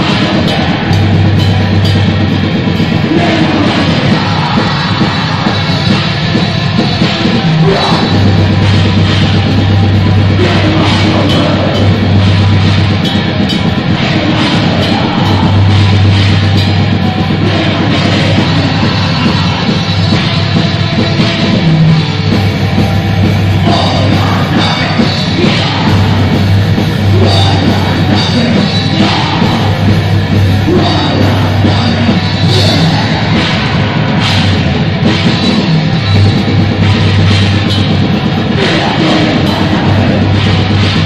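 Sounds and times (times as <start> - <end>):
distorted electric guitars: 0.0 - 41.0
drum kit: 0.0 - 41.0.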